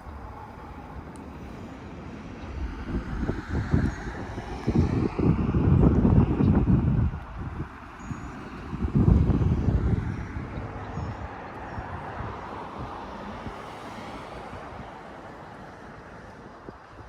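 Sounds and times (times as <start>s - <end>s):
wind gust buffeting microphone: 0.0s - 17.0s
wind over microphone: 0.0s - 17.0s.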